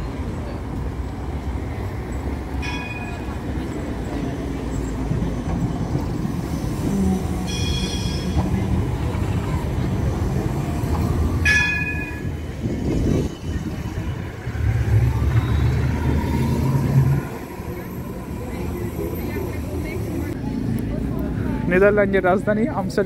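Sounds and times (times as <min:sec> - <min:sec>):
tram rumbling: 0:00.0 - 0:23.0
tram wheels squealing: 0:01.6 - 0:20.4.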